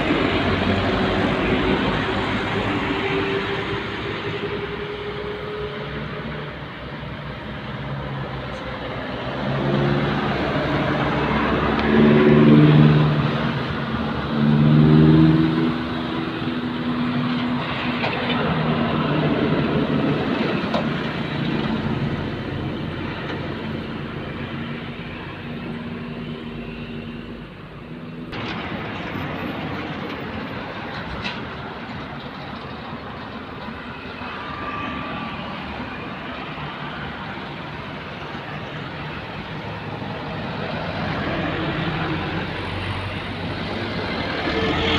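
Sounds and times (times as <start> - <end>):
heavy trucks passing: 0.0 - 44.9.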